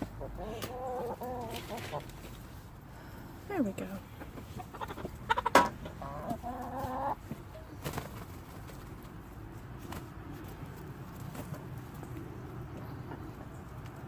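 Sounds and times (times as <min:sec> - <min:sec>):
hens clucking: 0:00.0 - 0:02.9, 0:03.7 - 0:14.0.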